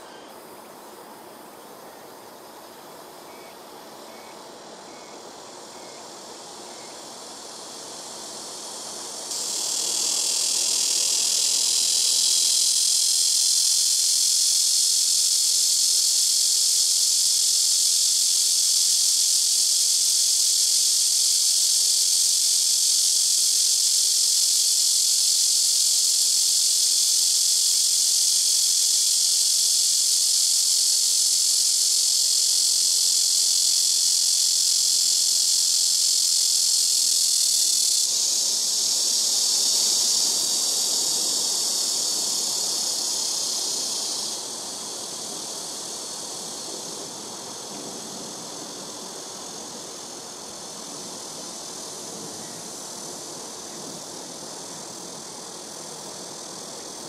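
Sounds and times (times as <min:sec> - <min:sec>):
cicada buzzing: 0:00.0 - 0:57.0.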